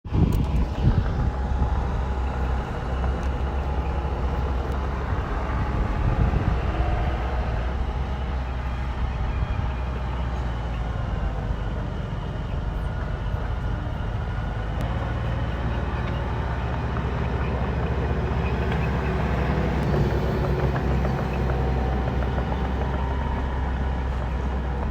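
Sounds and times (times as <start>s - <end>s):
bulldozer engine running: 0.0s - 24.9s.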